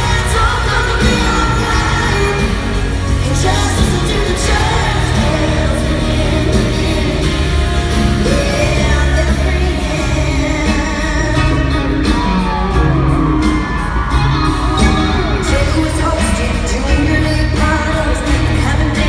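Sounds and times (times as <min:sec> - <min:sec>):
live band playing pop-country: 0:00.0 - 0:19.0
woman singing lead vocals: 0:00.0 - 0:19.0.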